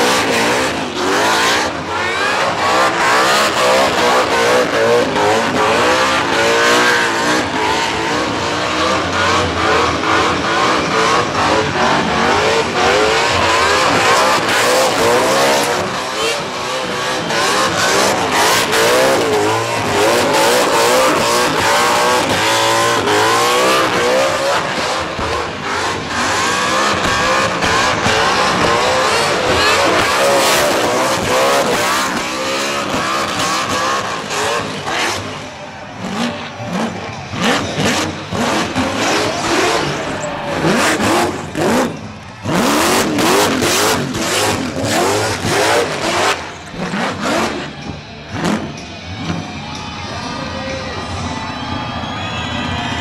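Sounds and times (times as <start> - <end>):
car engine revving hard: 0.0 - 49.4.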